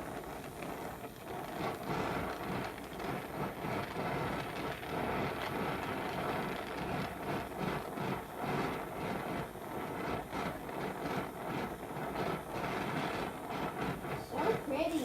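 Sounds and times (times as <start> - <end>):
torch flame hissing and crackling: 0.0 - 15.0.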